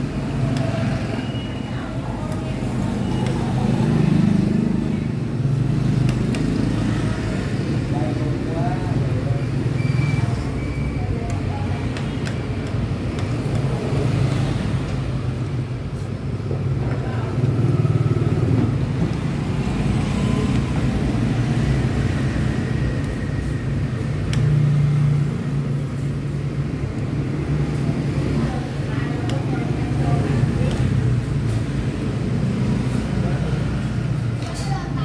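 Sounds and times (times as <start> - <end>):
motorbikes and cars passing: 0.0 - 35.0.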